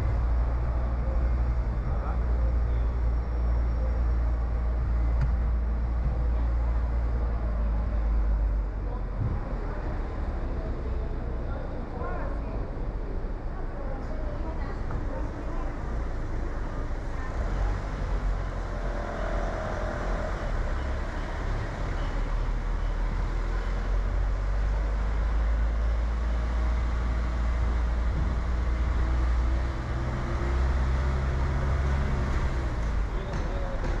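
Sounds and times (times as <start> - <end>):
car engine and tyre rumble: 0.0 - 34.0
faint traffic: 0.0 - 34.0.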